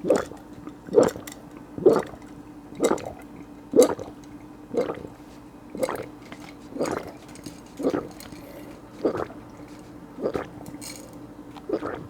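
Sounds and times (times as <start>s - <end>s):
person gulping a drink: 0.0s - 2.2s, 2.8s - 12.0s.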